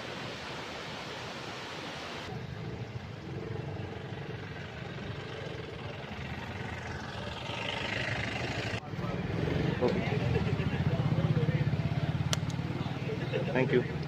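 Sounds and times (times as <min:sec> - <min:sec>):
vehicle engine rumbling: 0:02.3 - 0:14.0.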